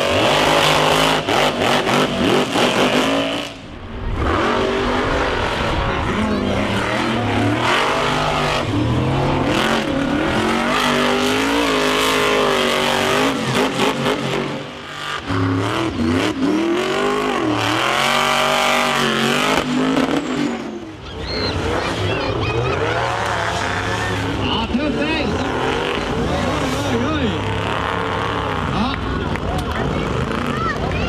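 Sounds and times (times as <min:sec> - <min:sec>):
monster truck engine revving: 0:00.0 - 0:31.0.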